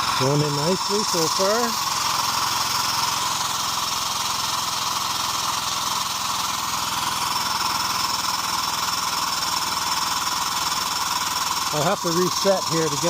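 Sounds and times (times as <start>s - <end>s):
hydraulic power unit running: 0.0s - 13.0s.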